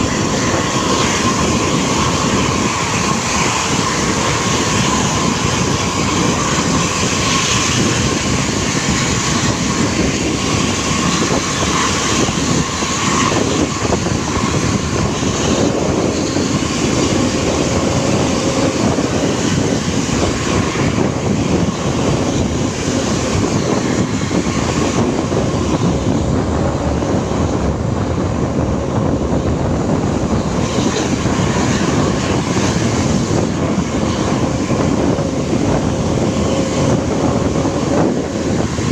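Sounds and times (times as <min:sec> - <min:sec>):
bus diesel engine droning: 0:00.0 - 0:38.9
road noise: 0:00.0 - 0:38.9.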